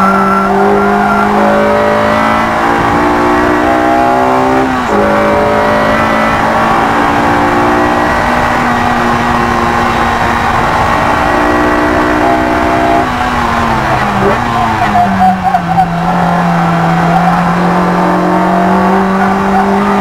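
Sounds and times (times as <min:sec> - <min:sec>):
car engine accelerating hard: 0:00.0 - 0:20.0
road and wind noise: 0:00.0 - 0:20.0.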